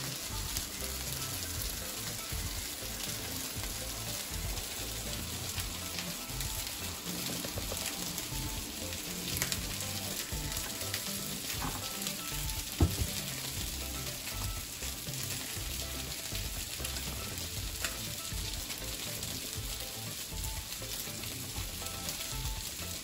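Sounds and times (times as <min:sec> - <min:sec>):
oil sizzling in a frying pan: 0:00.0 - 0:23.0.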